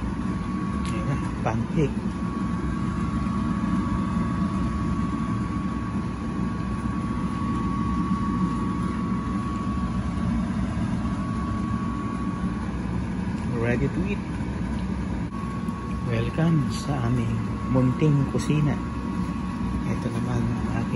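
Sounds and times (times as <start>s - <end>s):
low mechanical hum: 0.0s - 20.9s
thin whine: 0.0s - 20.9s.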